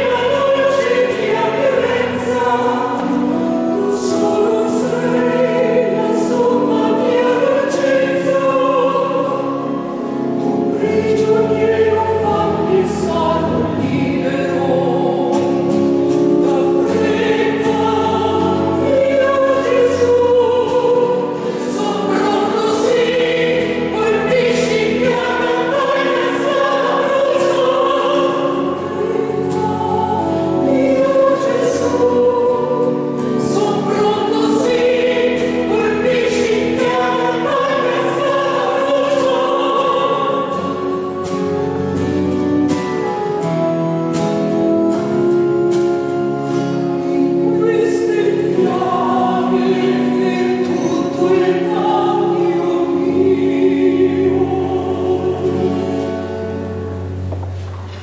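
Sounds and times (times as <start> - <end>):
choir singing: 0.0 - 57.2.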